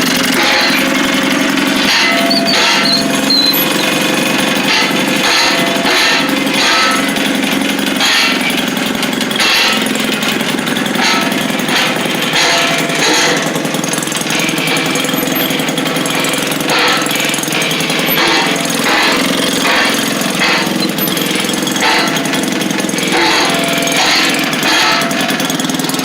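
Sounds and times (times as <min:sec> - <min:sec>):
small engine popping: 0:00.0 - 0:26.0.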